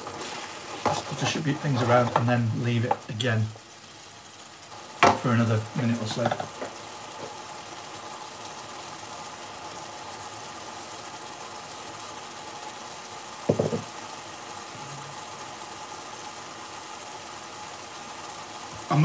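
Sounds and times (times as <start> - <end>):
sauce sizzling and bubbling: 0.0 - 19.0.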